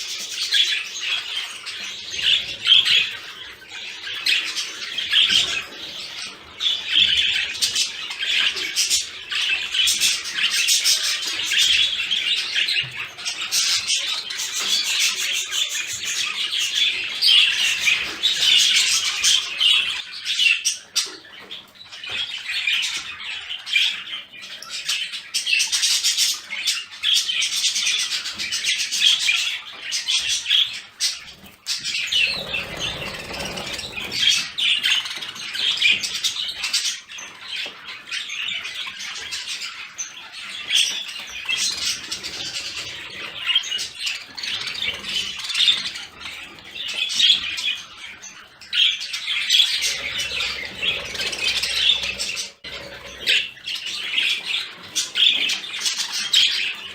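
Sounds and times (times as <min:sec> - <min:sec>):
budgerigars chattering and warbling: 0:00.0 - 0:56.9.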